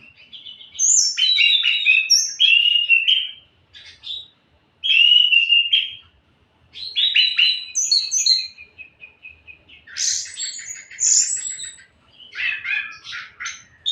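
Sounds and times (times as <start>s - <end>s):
bird singing whistled trills: 0.0s - 6.1s, 6.8s - 13.9s.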